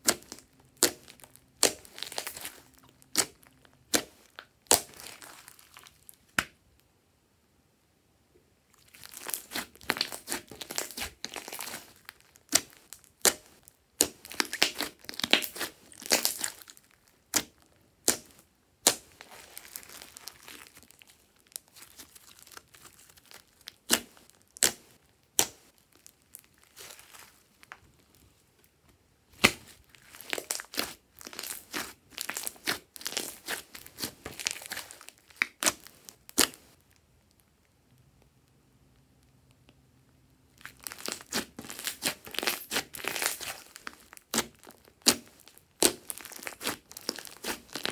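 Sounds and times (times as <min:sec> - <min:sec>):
slime crackling and popping: 0:00.0 - 0:06.6, 0:08.8 - 0:27.9, 0:29.3 - 0:38.0, 0:40.5 - 0:47.9.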